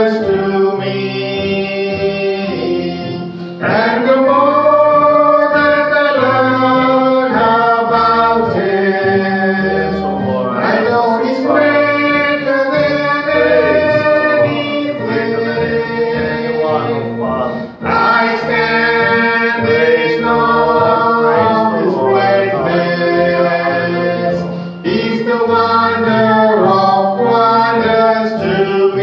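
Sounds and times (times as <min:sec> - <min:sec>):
man and boy singing: 0:00.0 - 0:29.0
steady held accompaniment: 0:00.0 - 0:29.0.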